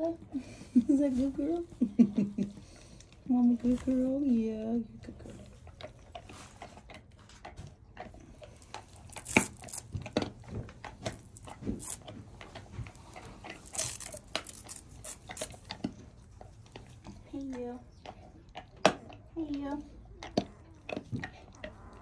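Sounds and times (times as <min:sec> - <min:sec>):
dog gnawing a bone: 0:02.4 - 0:22.0.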